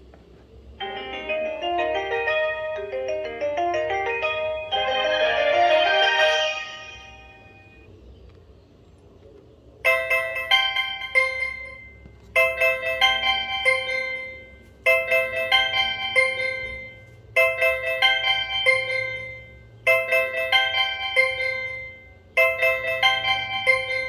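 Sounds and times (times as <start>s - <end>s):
bell-like phone ringtone: 0.8s - 7.9s, 9.8s - 24.0s.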